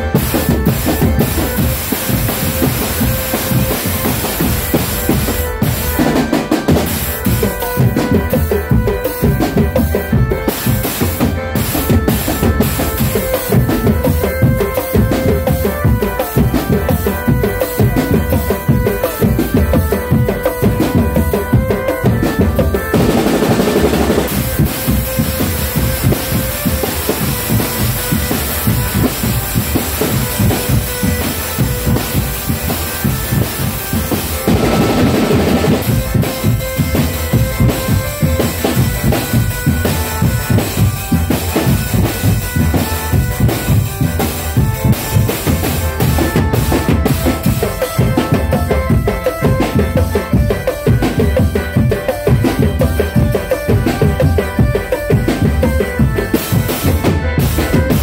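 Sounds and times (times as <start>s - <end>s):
drum band playing fast: 0.0s - 58.0s
held note over drums: 0.0s - 58.0s.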